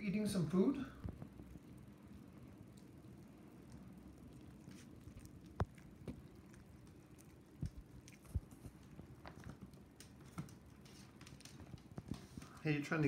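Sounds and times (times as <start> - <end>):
puppy chewing: 1.0 - 12.9.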